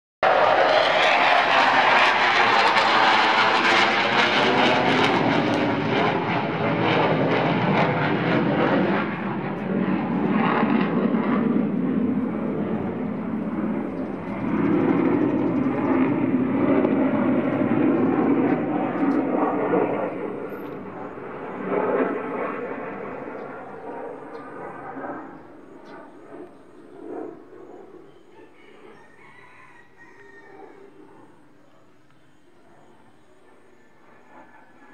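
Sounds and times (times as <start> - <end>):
jet roar: 0.2 - 29.0.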